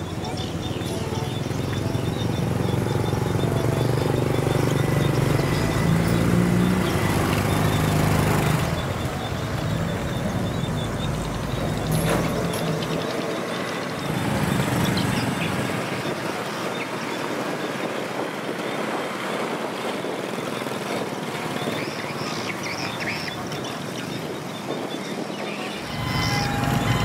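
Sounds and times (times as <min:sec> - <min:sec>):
outdoor traffic noise: 0:00.0 - 0:27.0
small motorcycle engines: 0:00.0 - 0:27.0.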